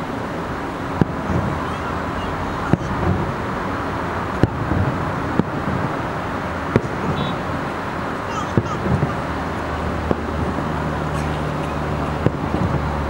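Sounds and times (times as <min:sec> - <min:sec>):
traffic noise: 0:00.0 - 0:13.0
distant firework bangs: 0:00.8 - 0:13.0.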